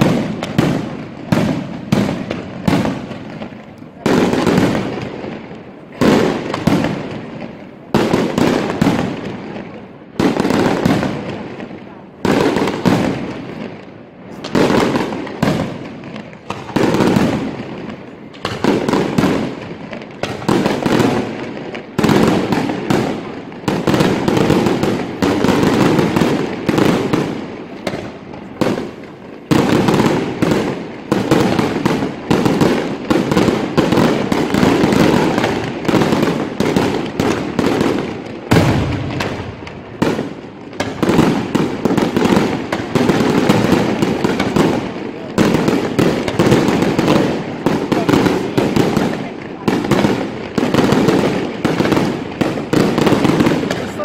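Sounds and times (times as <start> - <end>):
fireworks crackling: 0.0 - 54.0.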